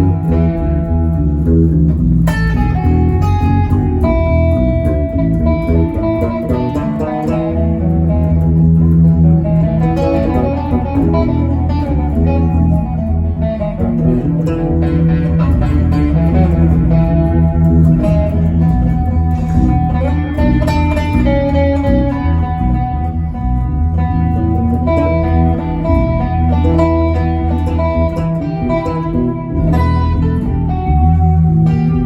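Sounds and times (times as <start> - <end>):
bass guitar: 0.0 - 32.0
electric guitar: 0.0 - 32.0.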